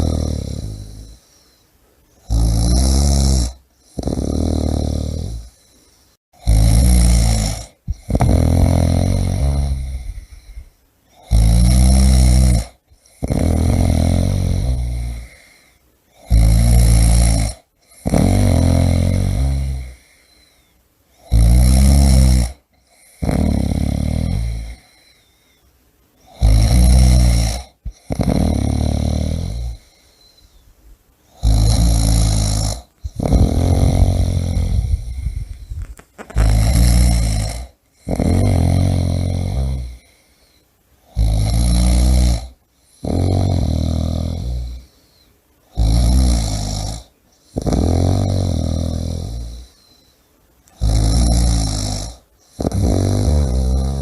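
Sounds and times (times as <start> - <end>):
person snoring: 0.0 - 1.4, 2.2 - 25.4, 26.2 - 30.6, 31.3 - 50.1, 50.7 - 54.0.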